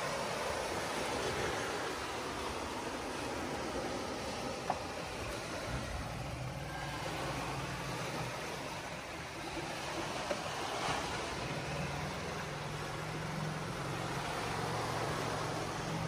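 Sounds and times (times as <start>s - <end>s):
jet ski engine humming: 0.0s - 16.0s.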